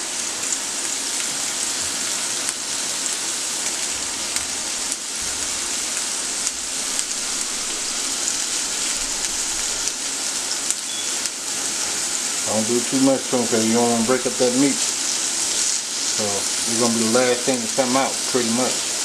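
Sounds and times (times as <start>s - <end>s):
steaks and onions sizzling: 0.0s - 19.0s.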